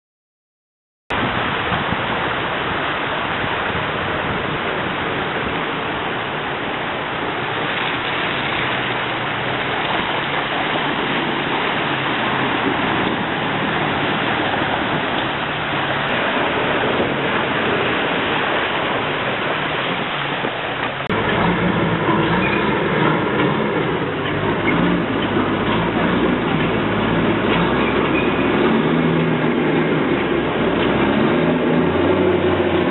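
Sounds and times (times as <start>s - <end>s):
river water rushing: 1.1s - 32.9s
diesel truck engine running: 4.0s - 32.9s.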